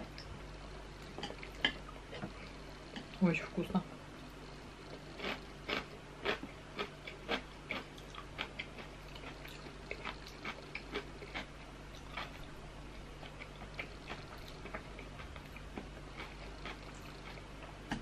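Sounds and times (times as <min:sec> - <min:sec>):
person chewing soft food: 0:00.0 - 0:03.2, 0:04.8 - 0:18.0.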